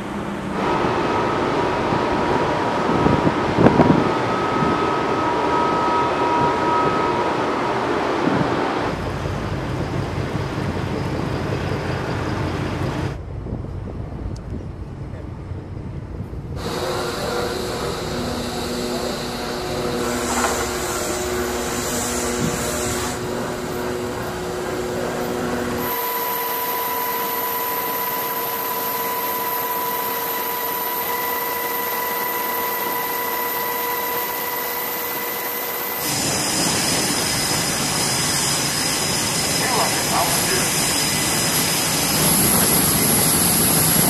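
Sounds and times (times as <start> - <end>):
jet engines: 0.0 - 44.0
machinery hum and whine: 0.0 - 44.0.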